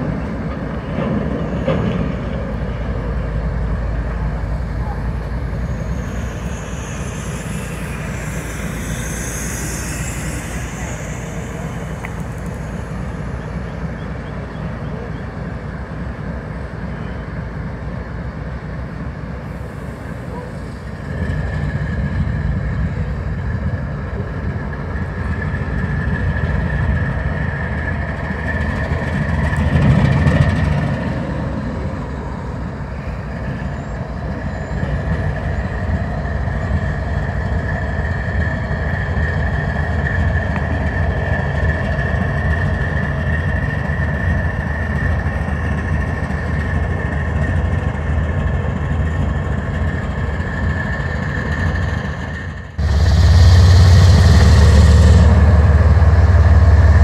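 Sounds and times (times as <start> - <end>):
diesel train rumble: 0.0 - 57.0
thin steady whine: 0.0 - 57.0.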